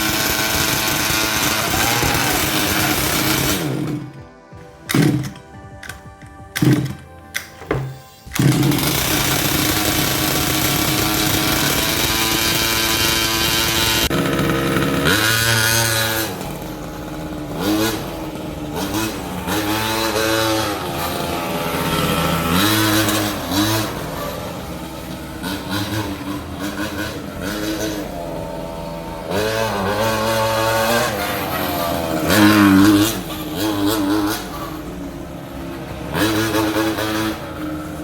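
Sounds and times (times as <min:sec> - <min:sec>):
small two-stroke engine revving: 0:00.0 - 0:04.3, 0:04.9 - 0:05.4, 0:08.3 - 0:38.0.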